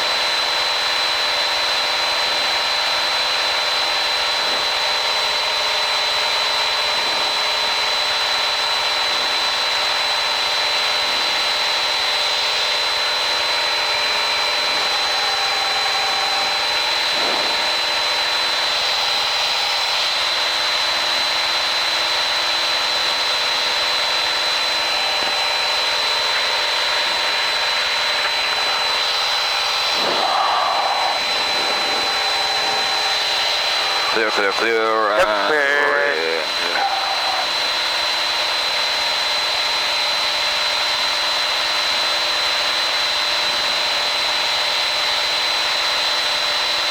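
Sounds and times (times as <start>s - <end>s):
high-pitched whine: 0.0s - 45.4s
aircraft engine and propeller: 0.0s - 46.9s.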